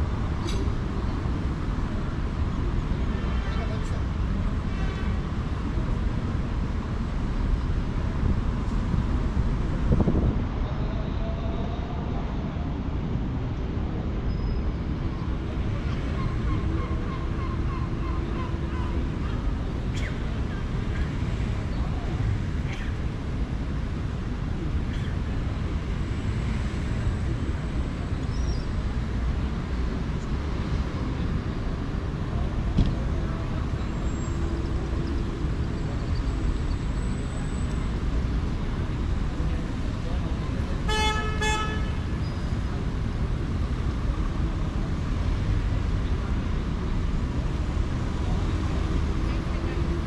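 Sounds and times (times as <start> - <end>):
distant engines rumbling: 0.0 - 50.0
wind: 0.0 - 50.0.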